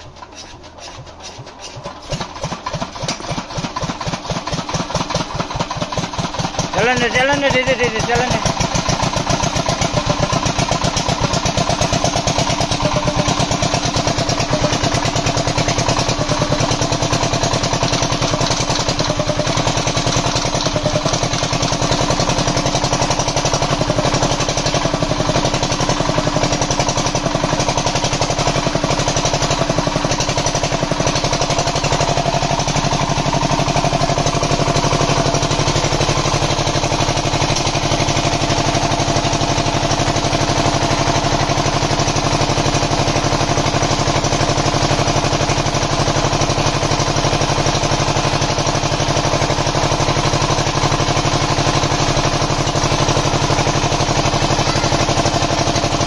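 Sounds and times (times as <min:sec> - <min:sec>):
diesel generator engine running: 0:00.0 - 0:56.0.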